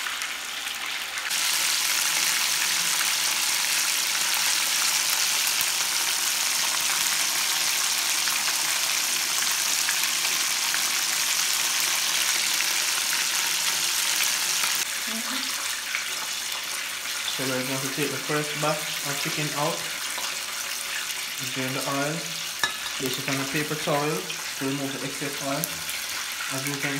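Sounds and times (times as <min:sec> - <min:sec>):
chicken deep-frying in oil: 0:00.0 - 0:26.9.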